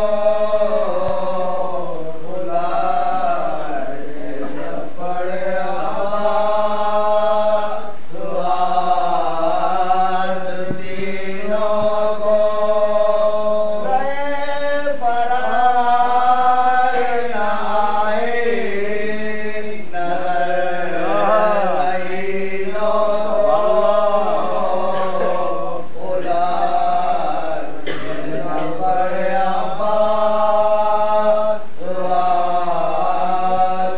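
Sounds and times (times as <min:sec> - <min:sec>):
men chanting together: 0:00.0 - 0:33.9.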